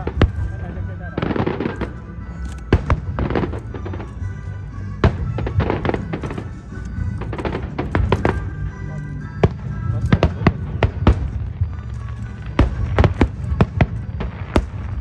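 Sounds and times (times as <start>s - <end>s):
continuous low rumble: 0.0s - 15.0s
fireworks bursting: 0.0s - 15.0s.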